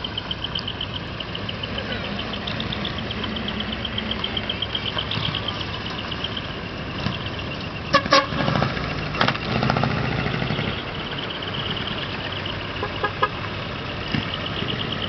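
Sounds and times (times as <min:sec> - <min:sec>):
truck engines running: 0:00.0 - 0:15.0
truck horns tooting: 0:00.0 - 0:15.0.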